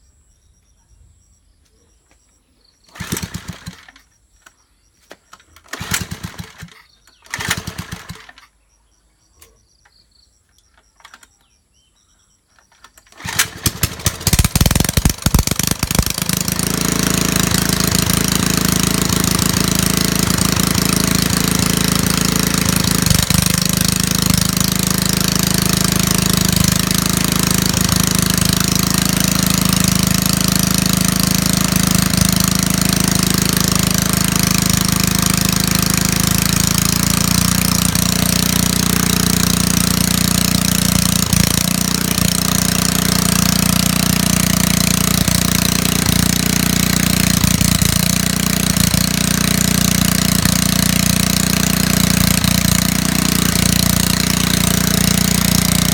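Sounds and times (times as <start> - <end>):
petrol generator running: 2.9 - 4.1, 5.3 - 8.4, 13.0 - 55.9.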